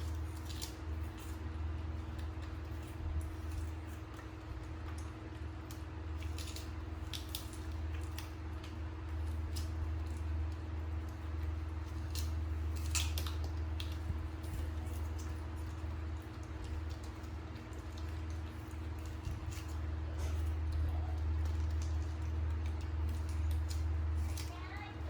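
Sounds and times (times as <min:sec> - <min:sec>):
fruit being chewed crunchily: 0:00.0 - 0:25.0
steady electrical hum: 0:00.0 - 0:25.0.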